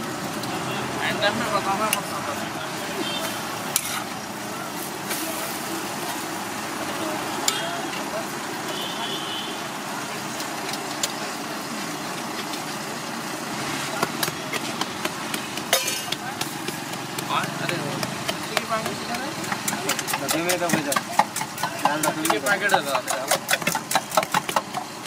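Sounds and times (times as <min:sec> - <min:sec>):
omelette sizzling on griddle: 0:00.0 - 0:25.0.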